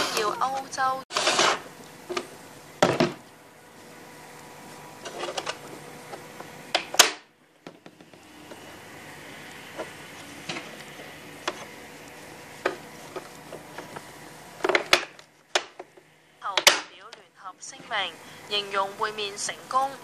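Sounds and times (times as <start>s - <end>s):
faint steady hum: 1.6s - 20.0s.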